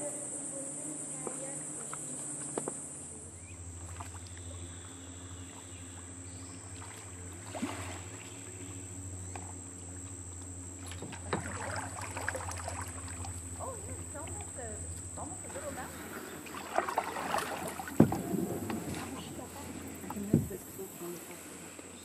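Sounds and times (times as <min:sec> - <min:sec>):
high-pitched insect drone: 0:00.0 - 0:18.0
paddles splashing water: 0:01.1 - 0:22.0.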